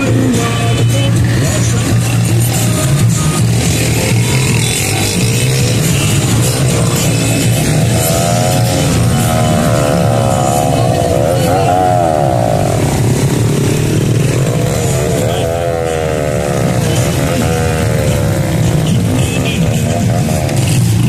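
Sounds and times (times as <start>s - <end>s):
small motorcycle engines: 0.0s - 21.0s.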